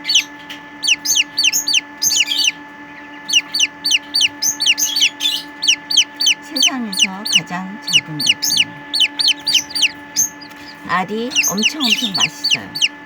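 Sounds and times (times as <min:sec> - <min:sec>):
chick peeping loudly: 0:00.0 - 0:13.0.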